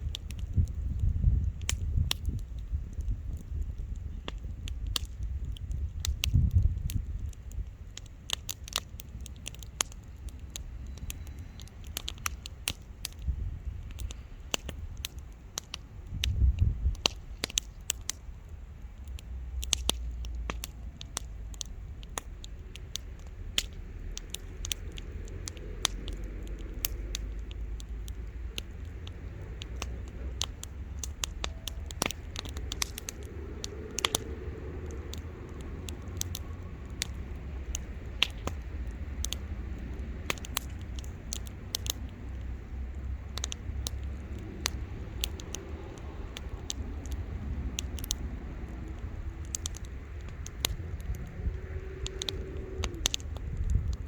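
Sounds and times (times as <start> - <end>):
bonfire crackling and popping: 0.0 - 54.0
fire low rumble: 0.0 - 54.0.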